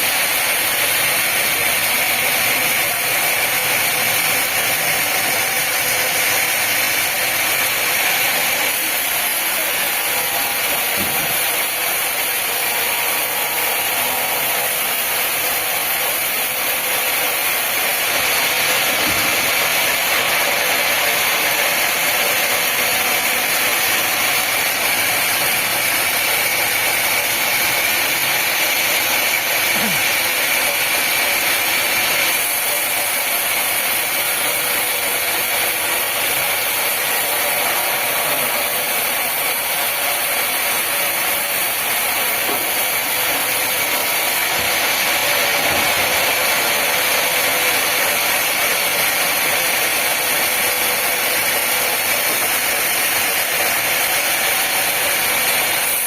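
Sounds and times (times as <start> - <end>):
sawmill machinery whining: 0.0 - 56.0.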